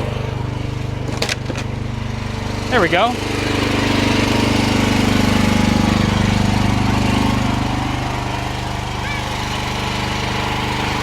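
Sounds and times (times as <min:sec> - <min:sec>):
small excavator engine running: 0:00.0 - 0:11.0.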